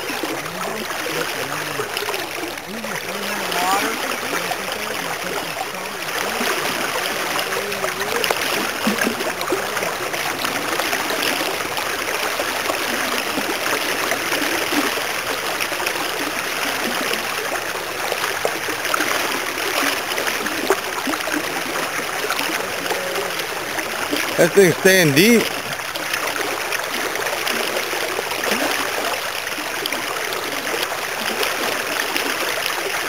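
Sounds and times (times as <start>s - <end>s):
creek water flowing: 0.0s - 33.0s.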